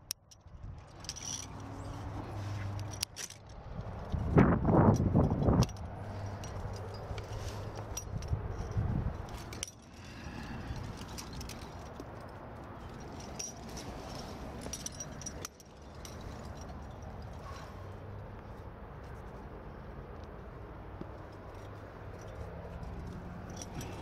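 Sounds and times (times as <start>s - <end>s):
climbing gear clinking on harness: 0.0s - 19.5s, 21.0s - 24.0s.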